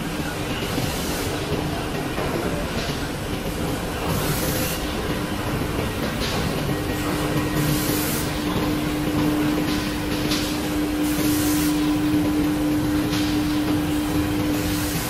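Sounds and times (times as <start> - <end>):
machine drone with hum: 0.0 - 15.0.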